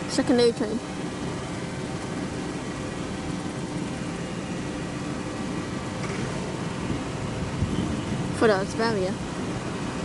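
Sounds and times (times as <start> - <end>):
faint steady tones: 0.0 - 10.0
vehicle rumble and hiss: 0.0 - 10.0.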